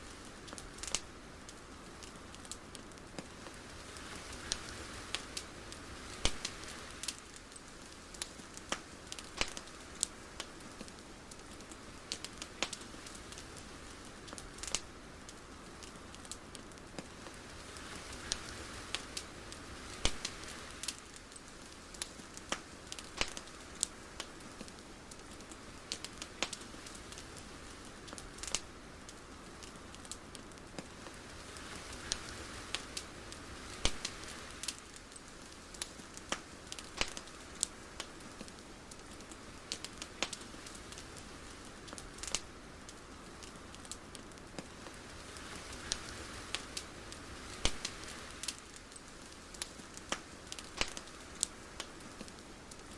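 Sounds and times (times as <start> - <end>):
irregular sharp crackles: 0.0 - 52.9
soft steady hiss: 0.0 - 52.9.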